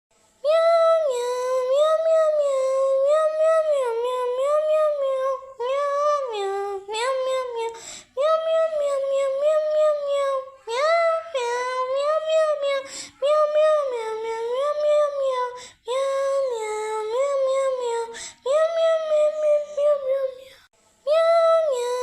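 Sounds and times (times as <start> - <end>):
high-pitched voice singing: 0.4 - 22.0.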